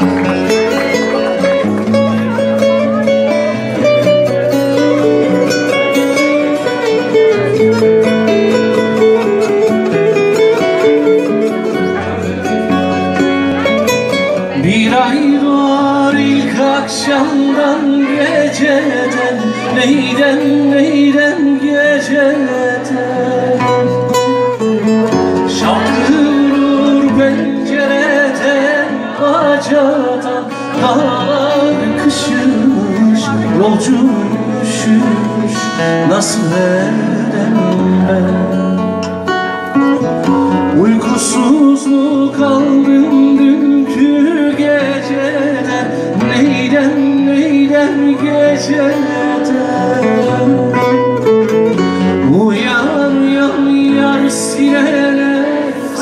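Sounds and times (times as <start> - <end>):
man singing folk song: 0.0 - 56.0
strummed acoustic guitar: 0.0 - 56.0.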